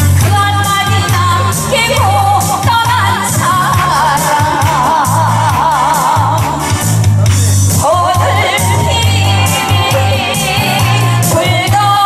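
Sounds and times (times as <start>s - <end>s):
backing track with steady beat: 0.0s - 12.0s
woman singing into microphone: 0.2s - 6.8s, 7.8s - 12.0s.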